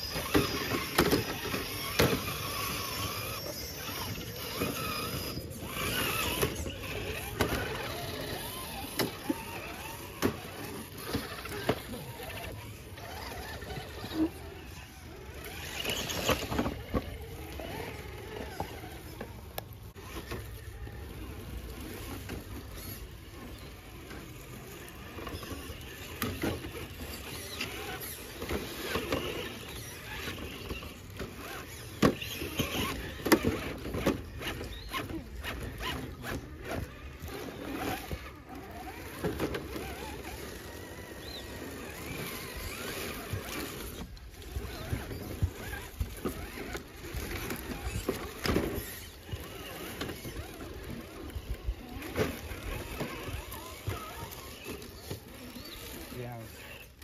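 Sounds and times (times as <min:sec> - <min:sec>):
small electric motors running: 0:00.0 - 0:57.0.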